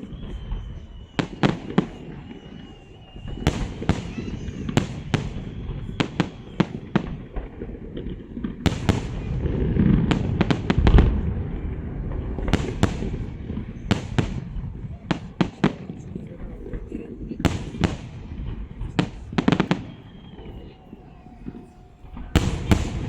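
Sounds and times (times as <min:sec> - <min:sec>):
firework bangs and cracks: 0:00.0 - 0:23.0
low firework boom: 0:00.0 - 0:23.0.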